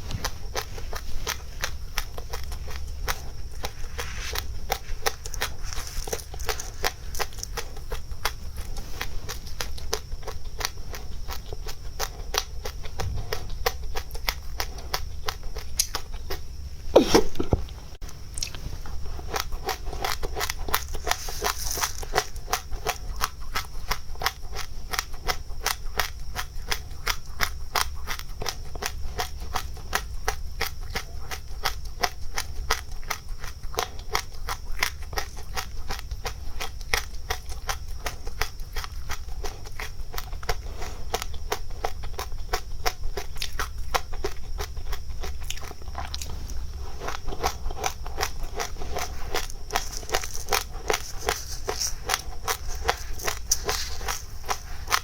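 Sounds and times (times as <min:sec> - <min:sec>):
chewing crunchy seeds: 0:00.0 - 0:55.0.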